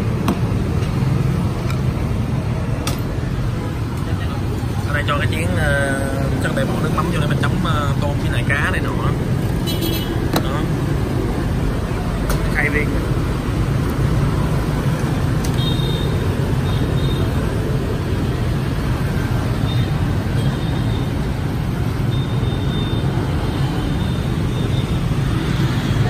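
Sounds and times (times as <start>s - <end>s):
street traffic hum: 0.0s - 26.0s.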